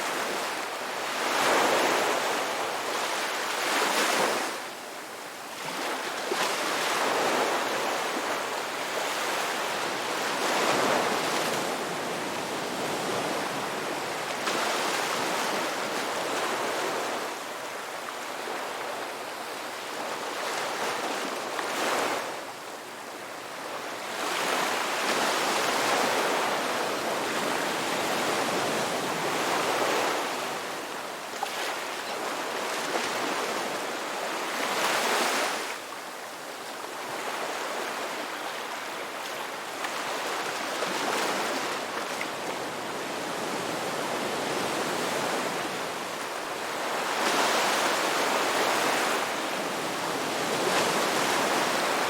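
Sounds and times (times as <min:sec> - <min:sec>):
ocean waves breaking on shore: 0:00.0 - 0:22.6, 0:23.2 - 0:52.0.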